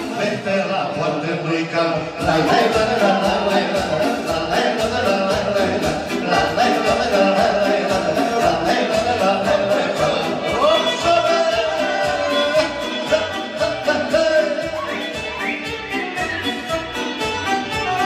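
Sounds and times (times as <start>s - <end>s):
live band playing folk dance music: 0.0s - 18.0s.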